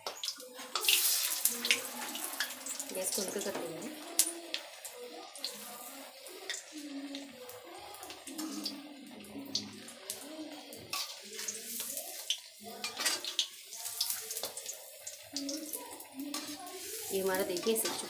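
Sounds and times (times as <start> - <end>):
deep-frying sizzling and bubbling: 0.0 - 18.0
oil crackling: 0.0 - 18.0.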